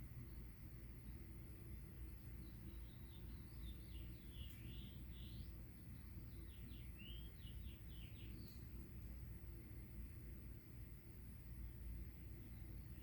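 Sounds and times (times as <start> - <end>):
birds chirping: 0.0 - 9.7, 11.9 - 13.0
steady low hum: 0.0 - 13.0.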